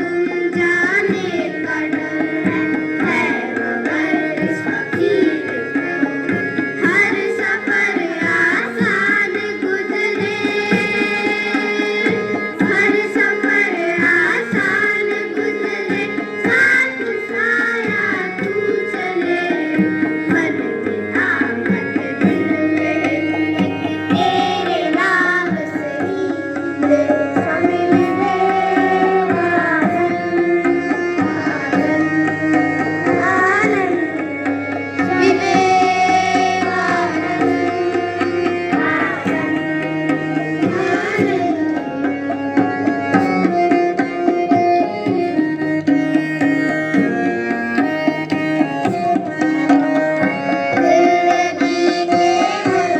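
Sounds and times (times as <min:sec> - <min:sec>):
tabla: 0:00.0 - 0:52.9.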